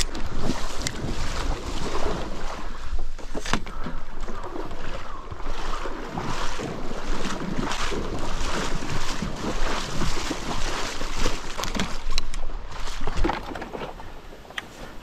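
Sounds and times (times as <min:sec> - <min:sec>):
wading through shallow water: 0:00.0 - 0:15.0.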